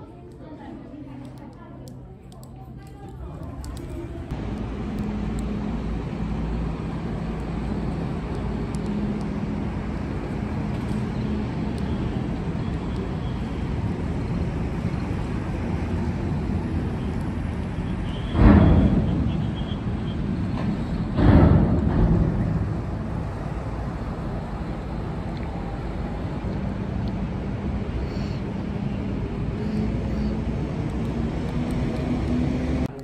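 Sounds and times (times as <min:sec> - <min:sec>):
low rumble with faint hum: 0:00.0 - 0:32.9.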